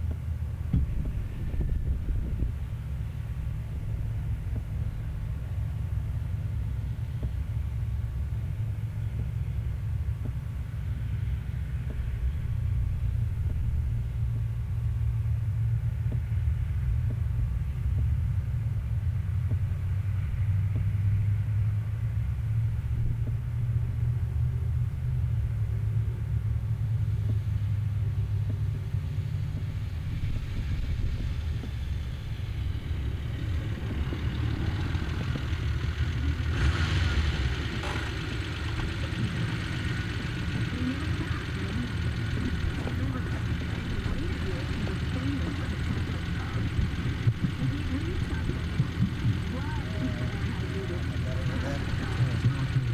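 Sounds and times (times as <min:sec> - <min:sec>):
car interior engine and road noise: 0:00.0 - 0:52.9.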